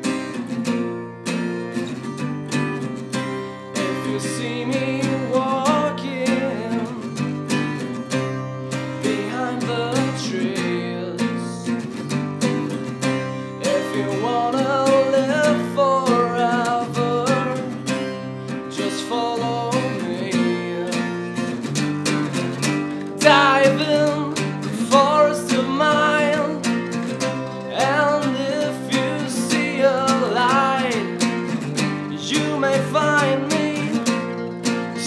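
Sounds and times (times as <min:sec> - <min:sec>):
acoustic bass guitar: 0:00.0 - 0:35.0
strummed acoustic guitars: 0:00.0 - 0:35.0
young man singing: 0:03.6 - 0:11.9, 0:12.5 - 0:21.7, 0:22.6 - 0:35.0.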